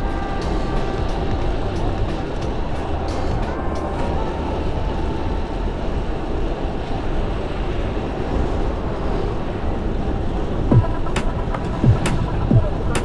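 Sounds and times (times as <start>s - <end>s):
bicycle road noise: 0.0s - 13.0s
wind buffeting microphone: 0.0s - 13.0s.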